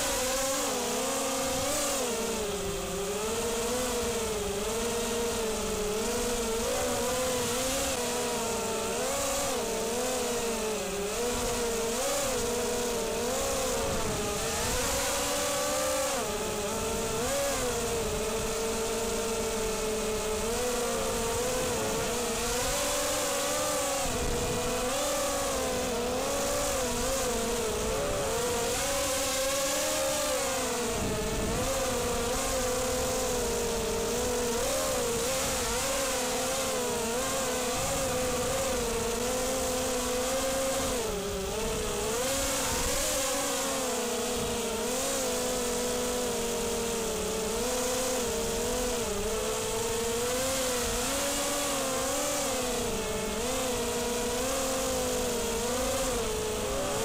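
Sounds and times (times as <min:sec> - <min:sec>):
quadcopter motors whining: 0:00.0 - 0:57.0.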